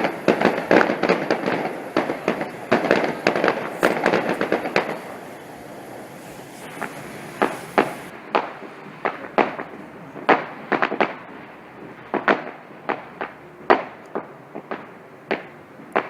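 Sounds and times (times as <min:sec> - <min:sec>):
fireworks banging: 0:00.0 - 0:16.0.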